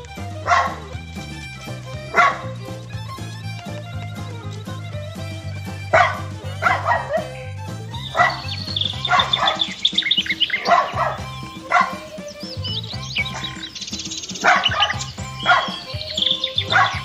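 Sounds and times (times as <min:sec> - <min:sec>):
background music: 0:00.0 - 0:17.0
puppy barking and yipping: 0:00.3 - 0:04.3, 0:05.6 - 0:13.7, 0:14.3 - 0:17.0.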